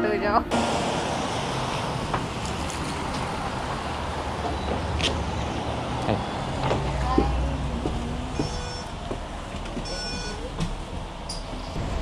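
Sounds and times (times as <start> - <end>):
bus engine rumble: 0.0 - 12.0
street traffic noise: 0.0 - 12.0
bus doors opening: 0.5 - 12.0.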